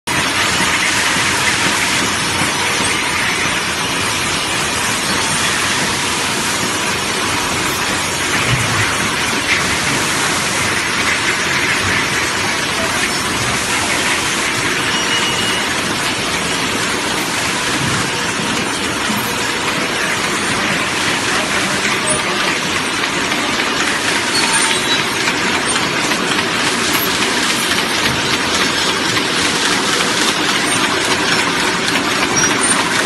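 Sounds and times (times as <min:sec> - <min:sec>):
bottling machinery hissing: 0:00.1 - 0:33.0.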